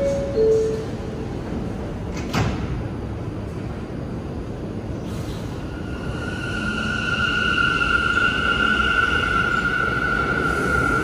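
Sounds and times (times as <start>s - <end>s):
subway car doors sliding shut: 0.0s - 11.0s.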